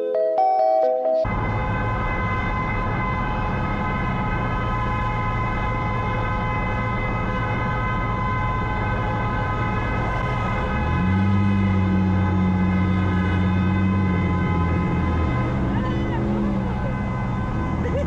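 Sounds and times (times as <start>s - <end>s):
car engine and road drone: 1.2s - 18.0s
steady high whine: 1.3s - 18.0s.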